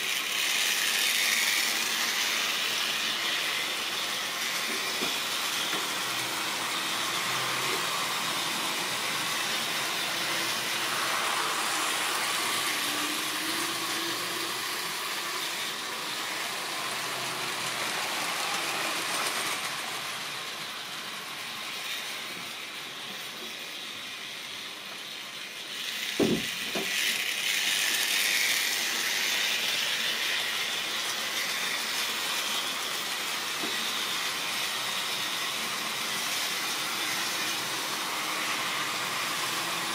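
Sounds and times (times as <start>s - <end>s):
model train whirring on rails: 0.0s - 39.9s.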